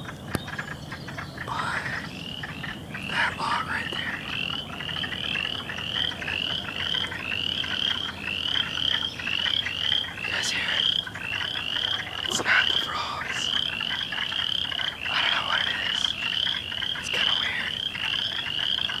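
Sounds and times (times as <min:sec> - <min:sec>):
frogs chirping in chorus: 0:00.0 - 0:19.0.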